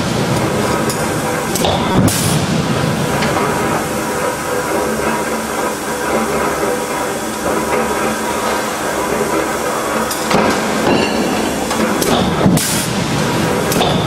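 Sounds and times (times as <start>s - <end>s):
machinery hiss and hum: 0.0s - 14.0s.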